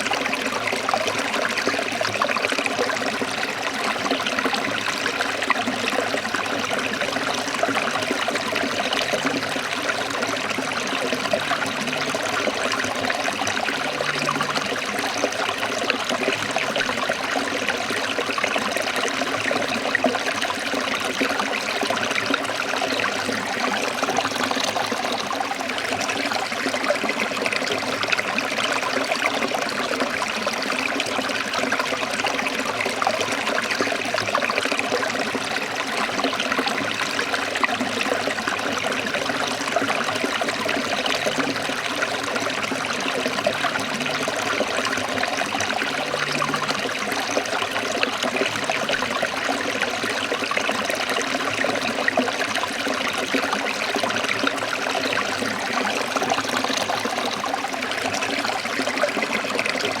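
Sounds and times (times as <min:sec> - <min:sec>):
stream trickling over rocks: 0:00.0 - 1:00.0.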